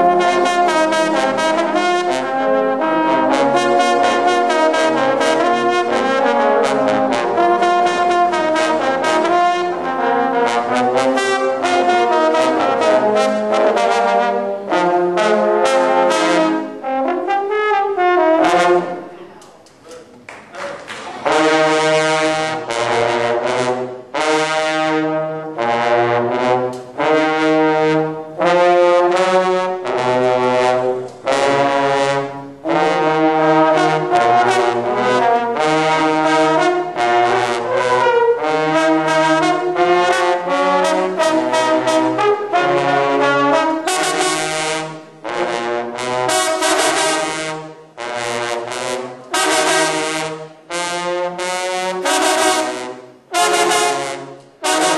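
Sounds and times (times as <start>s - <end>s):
baritone horns playing fanfare: 0.0s - 19.5s, 20.6s - 54.9s.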